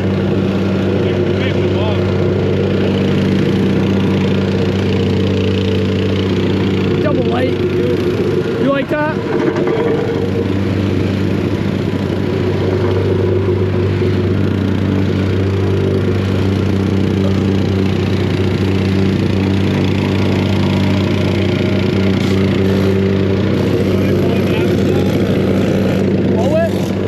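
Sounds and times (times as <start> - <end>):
engine running low hum: 0.0 - 27.0.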